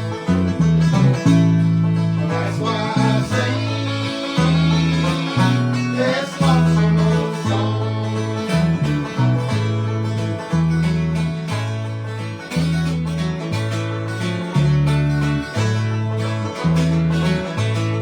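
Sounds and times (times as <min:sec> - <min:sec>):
acoustic guitar picking: 0:00.0 - 0:18.0
banjo picking: 0:00.0 - 0:18.0
bass line: 0:00.0 - 0:18.0.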